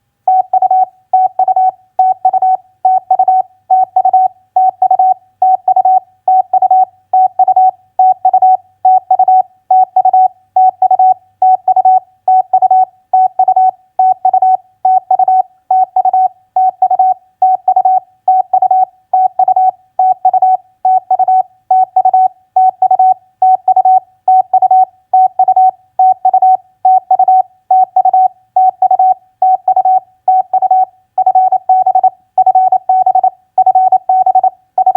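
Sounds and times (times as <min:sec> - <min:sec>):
morse code beeps: 0:00.3 - 0:34.9.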